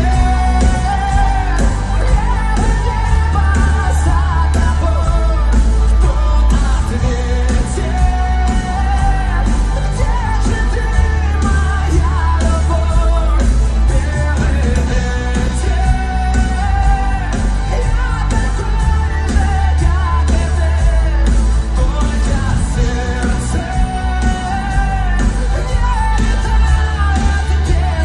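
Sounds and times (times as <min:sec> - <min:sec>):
man singing: 0:00.0 - 0:28.0
pop-rock song: 0:00.0 - 0:28.0.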